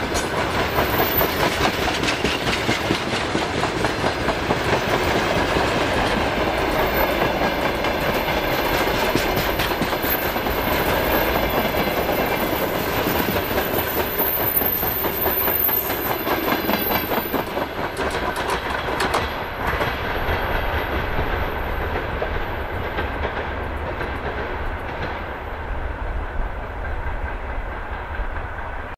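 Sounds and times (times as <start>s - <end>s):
freight wagons clattering on rails: 0.0s - 25.3s.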